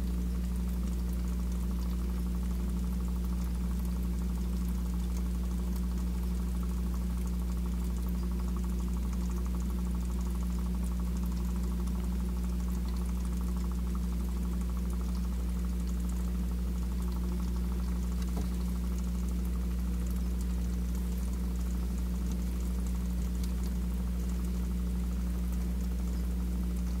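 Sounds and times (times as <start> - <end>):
aquarium pump humming: 0.0 - 27.0
small ticks: 0.0 - 27.0
water trickling: 0.0 - 27.0.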